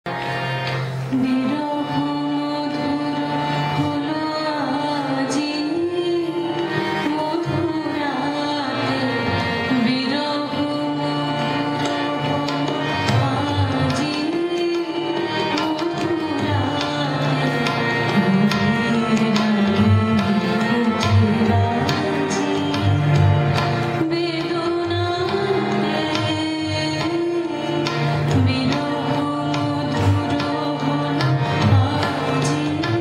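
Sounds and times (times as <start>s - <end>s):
harmonium: 0.0s - 33.0s
tabla drum strokes: 0.1s - 33.0s
woman singing: 1.1s - 33.0s.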